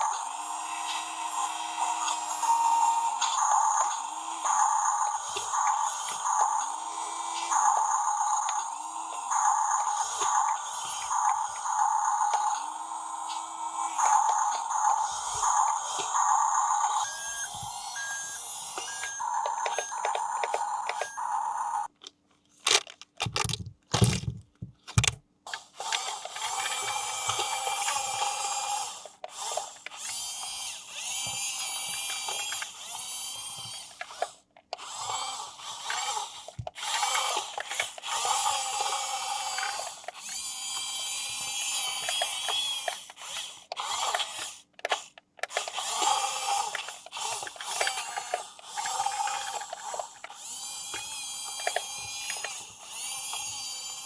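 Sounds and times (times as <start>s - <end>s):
toy motor whirring: 0.0s - 54.0s.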